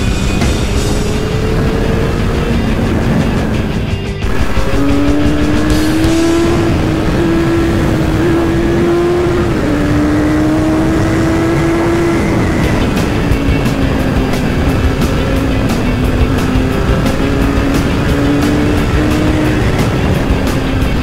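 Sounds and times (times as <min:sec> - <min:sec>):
motorcycle engine at speed: 0:00.0 - 0:21.0
wind rush: 0:00.0 - 0:21.0.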